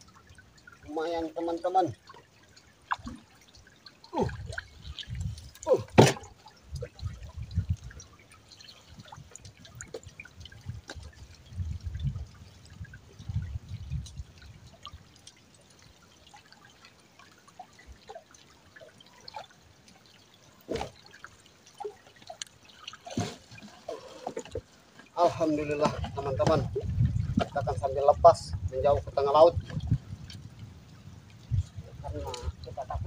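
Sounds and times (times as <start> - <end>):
water dripping and trickling: 0.0 - 33.0.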